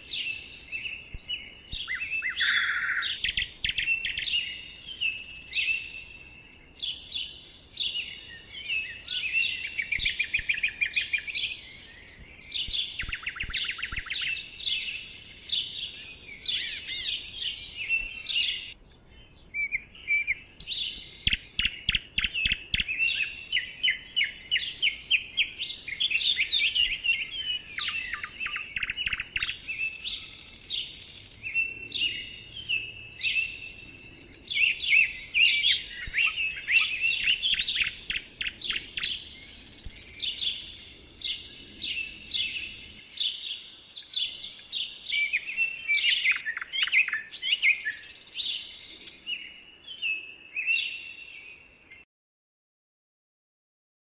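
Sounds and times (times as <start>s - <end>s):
songbirds chirping and trilling: 0.0s - 52.1s.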